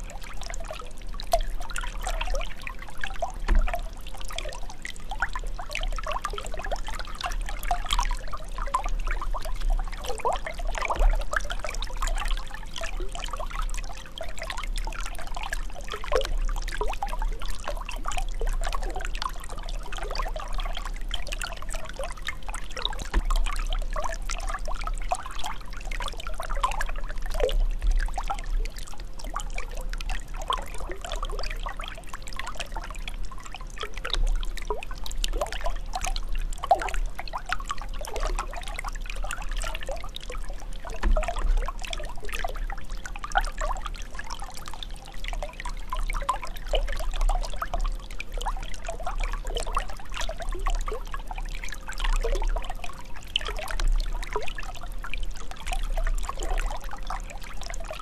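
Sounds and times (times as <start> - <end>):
running water: 0.0 - 50.9.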